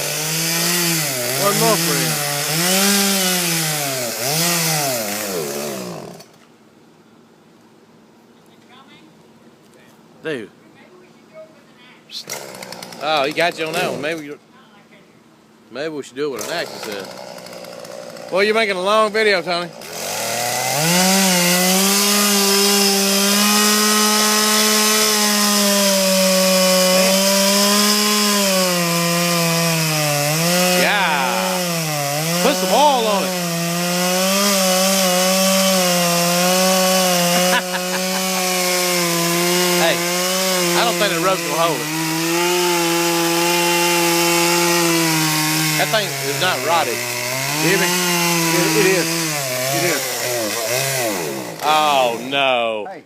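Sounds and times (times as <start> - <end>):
chainsaw cutting wood: 0.0 - 6.5, 12.2 - 14.4, 16.3 - 52.5.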